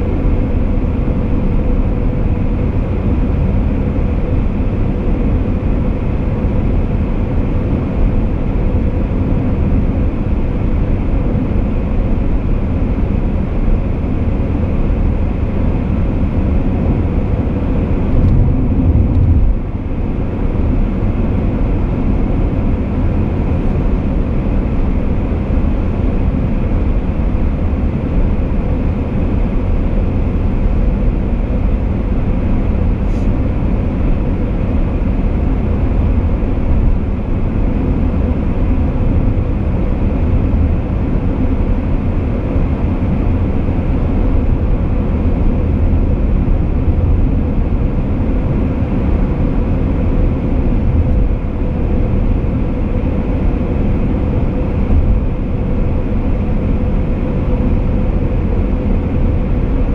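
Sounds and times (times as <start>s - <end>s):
car engine: 0.0s - 59.9s
tyres rumbling on road: 0.0s - 59.9s.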